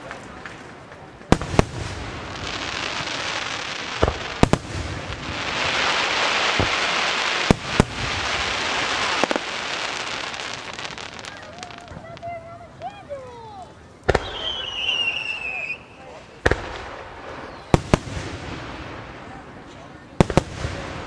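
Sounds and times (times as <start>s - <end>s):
continuous hiss: 0.0s - 21.0s
fireworks bangs: 0.0s - 21.0s.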